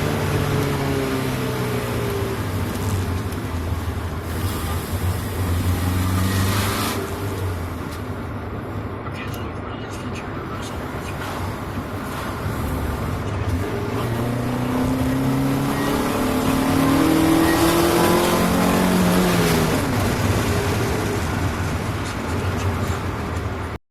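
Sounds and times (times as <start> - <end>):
car engine accelerating: 0.0 - 23.8.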